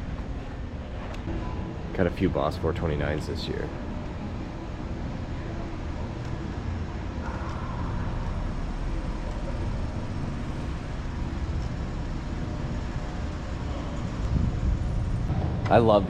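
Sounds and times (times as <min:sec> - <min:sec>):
low rumble of hall background: 0:00.0 - 0:16.0.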